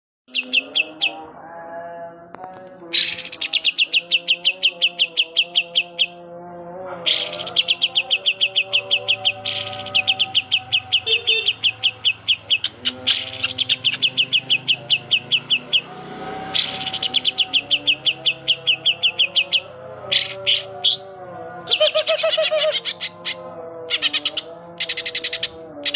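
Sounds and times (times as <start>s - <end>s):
bird singing sharp repeated notes: 0.3s - 25.9s.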